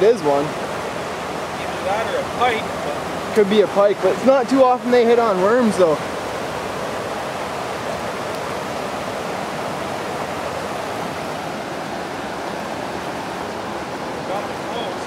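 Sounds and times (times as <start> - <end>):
river water rushing over riffle: 0.0 - 15.0.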